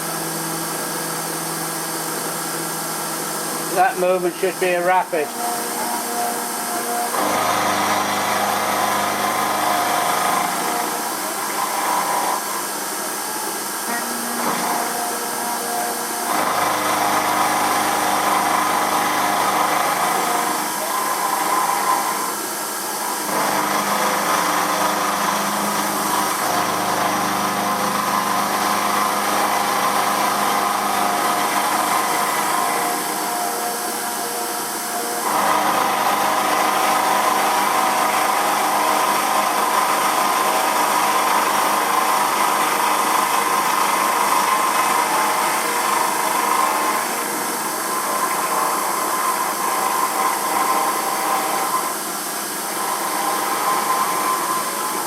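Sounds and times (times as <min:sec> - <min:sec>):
milling machine cutting metal: 0:00.0 - 0:55.0.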